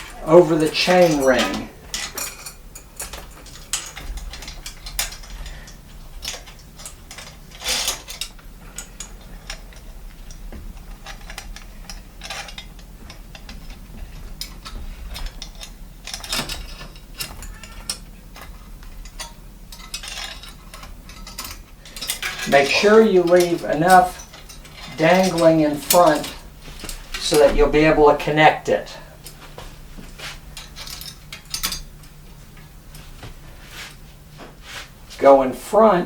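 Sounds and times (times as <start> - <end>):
bicycle chain clinking and rattling: 0.0 - 27.5, 30.1 - 32.2.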